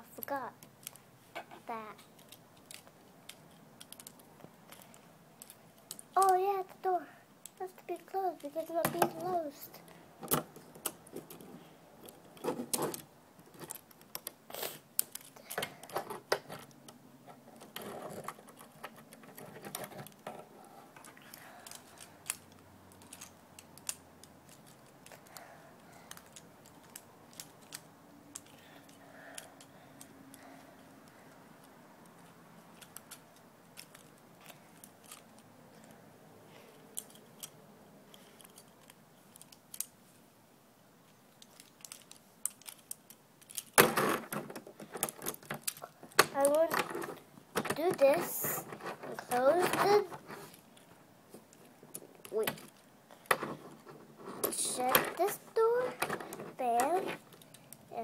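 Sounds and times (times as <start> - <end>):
plastic toy parts clicking: 0.2 - 1.0, 1.7 - 6.4, 7.4 - 20.4, 21.0 - 31.2, 32.0 - 36.0, 36.9 - 40.0, 41.4 - 50.9, 51.5 - 53.5, 54.3 - 57.9.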